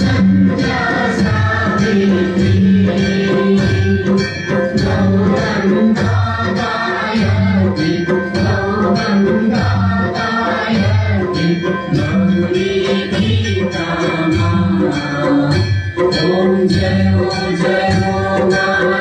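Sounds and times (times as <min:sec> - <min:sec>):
people singing a hymn: 0:00.0 - 0:19.0
percussion steady beat: 0:00.0 - 0:19.0.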